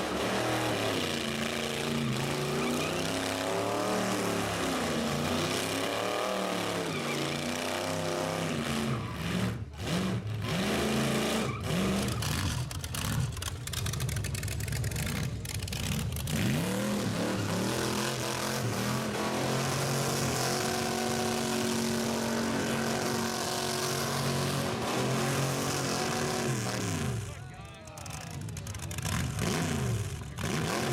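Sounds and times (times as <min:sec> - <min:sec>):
car engine revving: 0:00.0 - 0:27.4.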